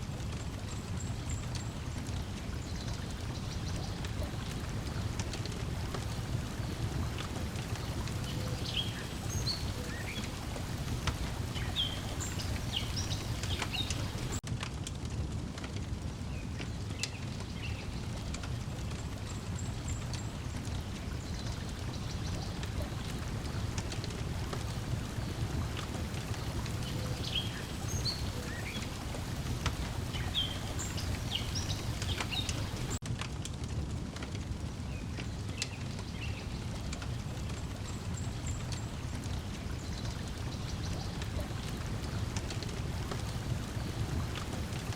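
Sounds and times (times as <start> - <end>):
water lapping at shore: 0.0 - 14.4, 17.5 - 33.0, 34.6 - 44.9
wood fire crackling: 0.0 - 44.9
songbirds chirping: 0.1 - 14.4, 16.3 - 33.0, 34.6 - 44.9.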